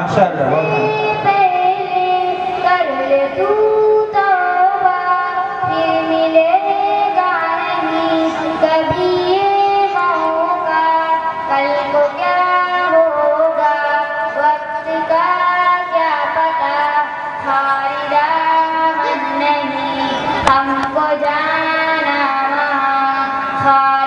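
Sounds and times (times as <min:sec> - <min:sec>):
boy singing unaccompanied: 0:00.6 - 0:24.0.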